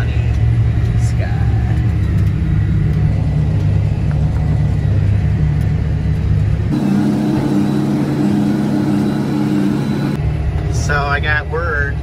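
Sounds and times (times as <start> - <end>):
tractor engine running: 0.0 - 12.0
baler hum: 0.4 - 10.9.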